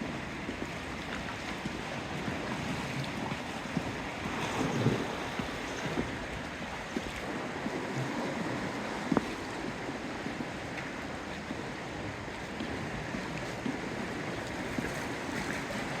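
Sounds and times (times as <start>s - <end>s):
water lapping on shore: 0.0s - 16.0s
wind on microphone: 0.0s - 16.0s.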